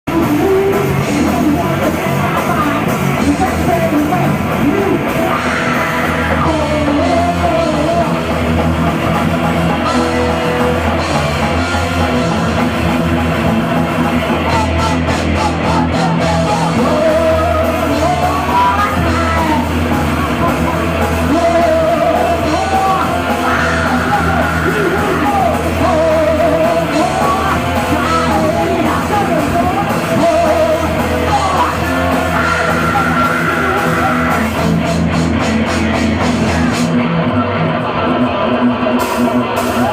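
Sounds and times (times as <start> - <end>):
heavy metal band playing: 0.0 - 39.9
yelled vocals: 0.0 - 39.9.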